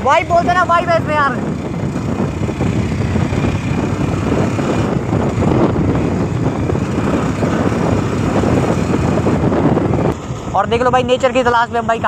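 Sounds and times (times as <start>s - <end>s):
motorcycle engine running: 0.0s - 12.0s
rough road noise: 0.0s - 12.0s.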